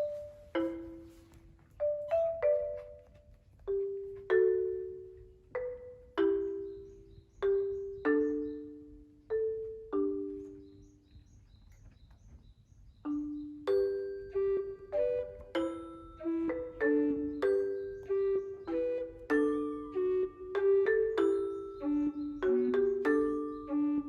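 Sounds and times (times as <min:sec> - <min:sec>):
gentle marimba-like melody: 0:00.0 - 0:11.1, 0:13.0 - 0:24.0.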